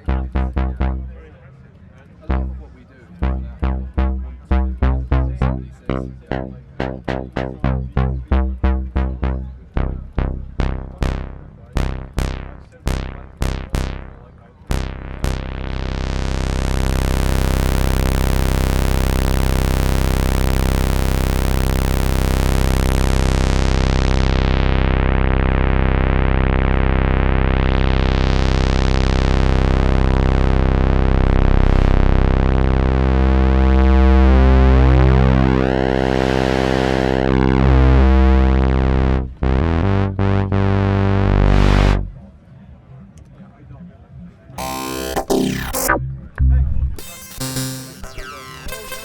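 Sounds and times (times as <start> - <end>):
buzzy synthesizer chord: 0.0 - 1.3, 2.2 - 42.2, 44.6 - 49.0.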